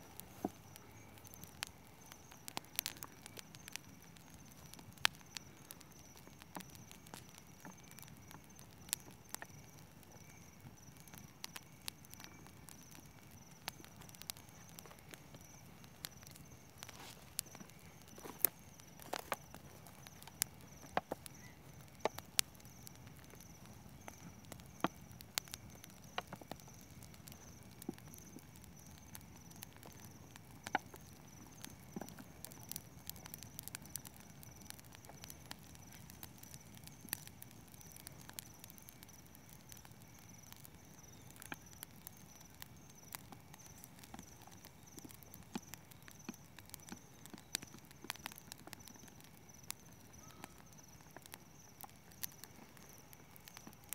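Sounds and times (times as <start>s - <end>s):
campfire crackling: 0.0s - 53.9s
insect trill: 0.0s - 53.9s.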